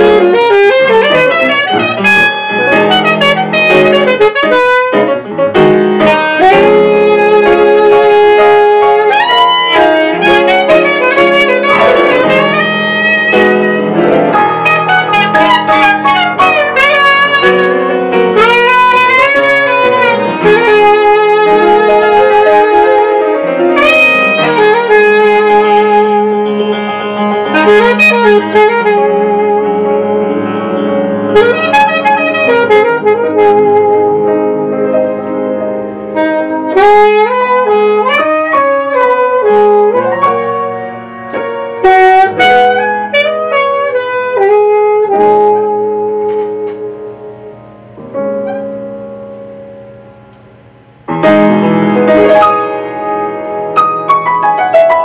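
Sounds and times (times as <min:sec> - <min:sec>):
alto saxophone melody: 0:00.0 - 0:49.4, 0:50.3 - 0:55.0
grand piano: 0:00.0 - 0:55.0.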